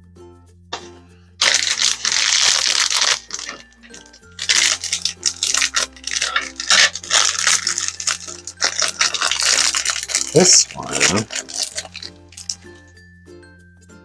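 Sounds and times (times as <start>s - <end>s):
packaging tearing and crinkling: 0.8s - 12.8s.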